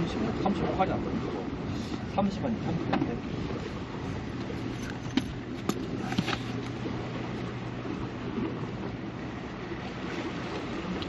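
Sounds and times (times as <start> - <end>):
low steady hum: 0.0 - 11.0
sea noise: 0.0 - 11.0
wind: 0.0 - 11.0.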